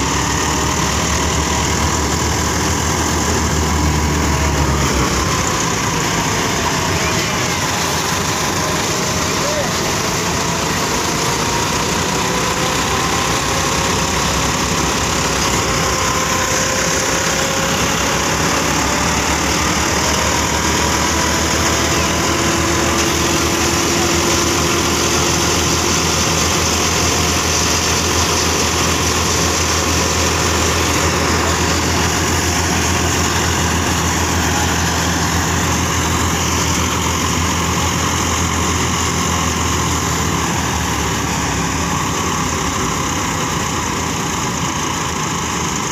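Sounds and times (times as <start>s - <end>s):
diesel tractor engine running: 0.0s - 45.9s.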